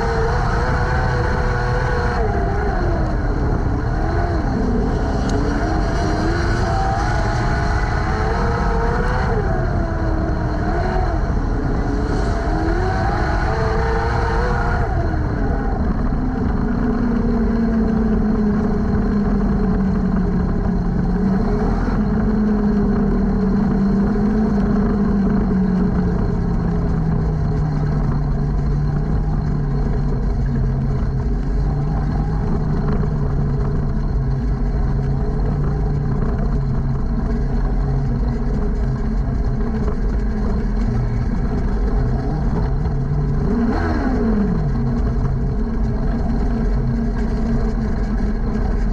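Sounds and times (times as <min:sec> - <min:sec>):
race car engine running: 0:00.0 - 0:48.9.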